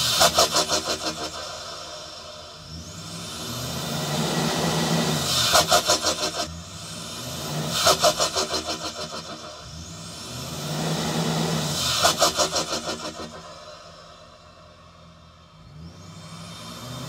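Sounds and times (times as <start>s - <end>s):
rapid engine fluttering: 0.0s - 13.8s
truck engine revving: 0.0s - 14.3s, 15.5s - 17.0s.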